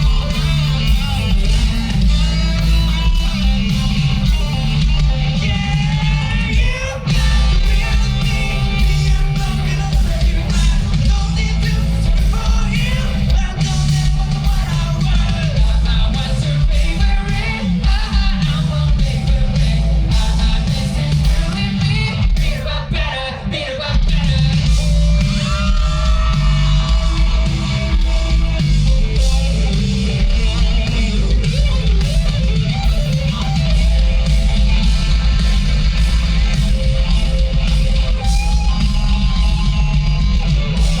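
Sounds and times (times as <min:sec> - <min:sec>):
bass guitar: 0:00.0 - 0:41.0
distorted electric guitars: 0:00.0 - 0:41.0
drums: 0:00.0 - 0:41.0
lead vocal singing and shouting: 0:00.0 - 0:41.0.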